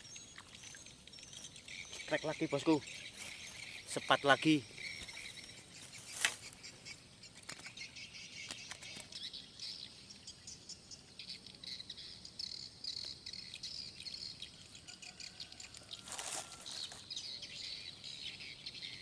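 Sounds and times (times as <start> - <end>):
birds chirping: 0.0 - 19.0
crickets and insects chirping: 0.0 - 19.0.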